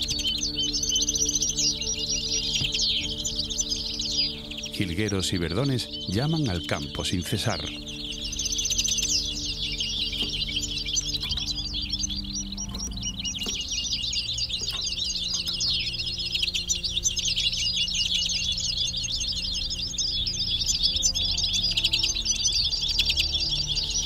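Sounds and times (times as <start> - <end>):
finches singing and twittering: 0.0 - 24.0.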